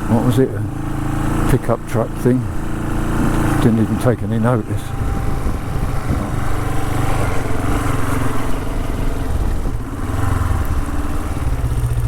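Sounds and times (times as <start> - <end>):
motorcycle engine on dirt trail: 0.0 - 12.0.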